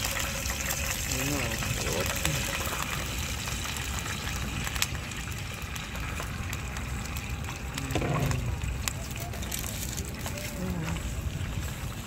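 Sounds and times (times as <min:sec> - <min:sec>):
steady hiss and rumble: 0:00.0 - 0:12.0.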